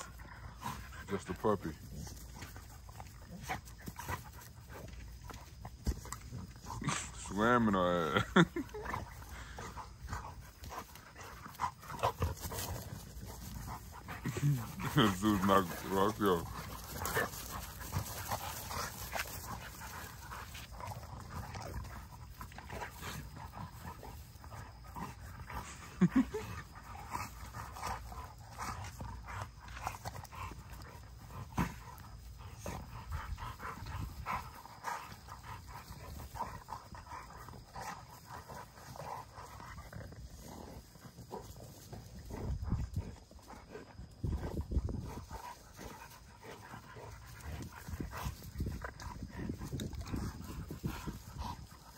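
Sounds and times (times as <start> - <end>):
dogs panting and scuffling: 0.0 - 51.9.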